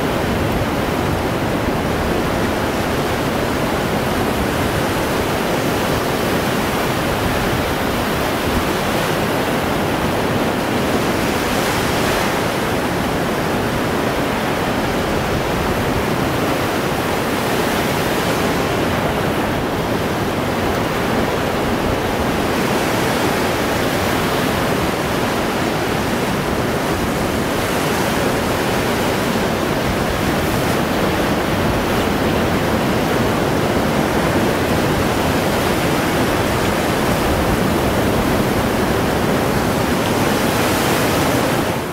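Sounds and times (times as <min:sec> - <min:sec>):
waves breaking on shore: 0:00.0 - 0:41.9.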